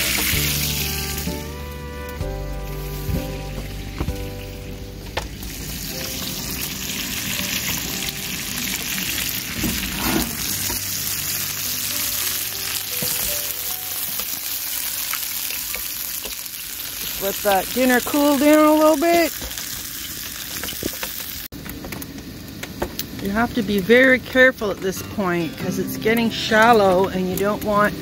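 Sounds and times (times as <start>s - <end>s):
sap boiling with sizzling hiss: 0.0s - 28.0s.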